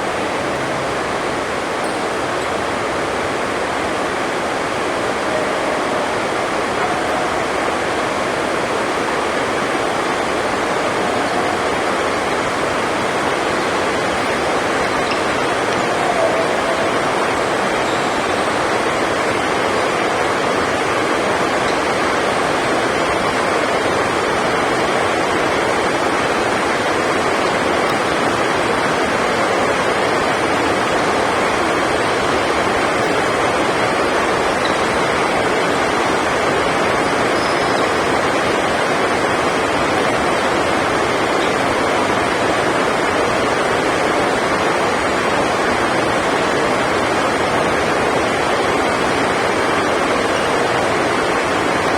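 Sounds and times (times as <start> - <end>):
heavy rain on a roof: 0.0 - 51.9.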